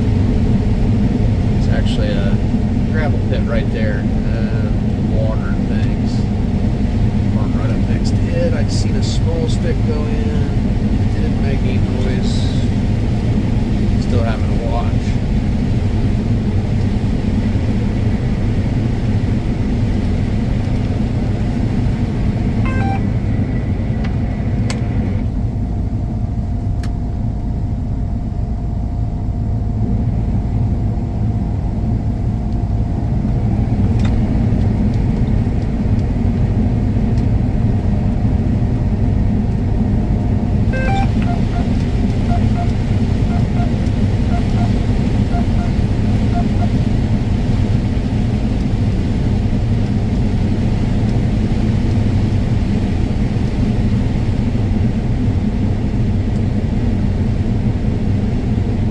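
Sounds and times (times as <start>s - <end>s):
combine harvester drone: 0.0s - 58.9s.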